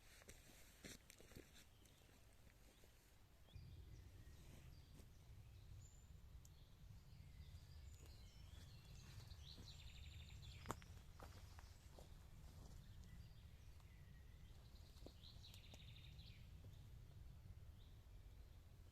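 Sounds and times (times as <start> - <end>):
low steady rumble: 3.6 - 18.9.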